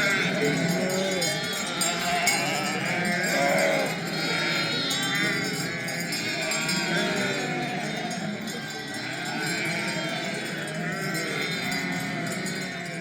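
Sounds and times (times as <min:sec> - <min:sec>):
sheep bleating: 0:00.0 - 0:13.0.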